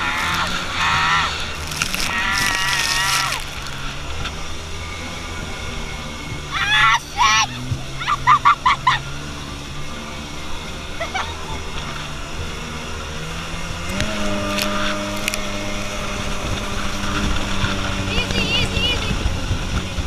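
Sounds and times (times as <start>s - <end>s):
jet boat engine drone: 0.0s - 20.0s.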